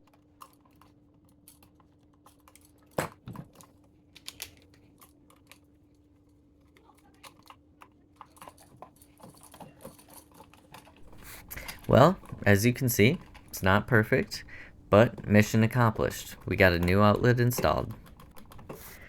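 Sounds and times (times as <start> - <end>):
faint steady hum: 0.0 - 19.0
small parts clicking and tapping: 0.0 - 19.0.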